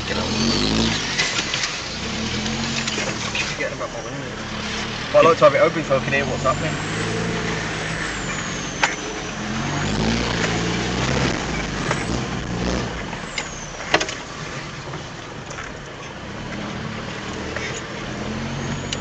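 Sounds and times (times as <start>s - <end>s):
truck engine running: 0.0s - 16.2s.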